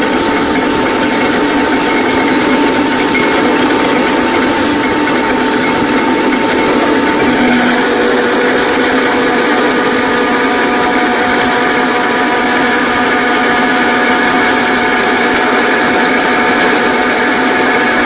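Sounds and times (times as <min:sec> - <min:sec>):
machine hum and whine: 0:00.0 - 0:18.0
milling machine grinding: 0:00.0 - 0:18.0.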